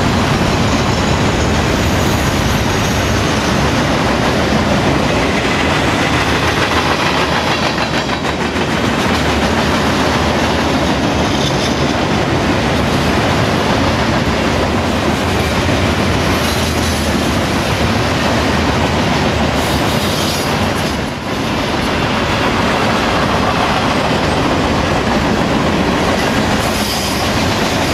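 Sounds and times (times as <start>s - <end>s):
freight train wheels rumbling: 0.0s - 27.9s.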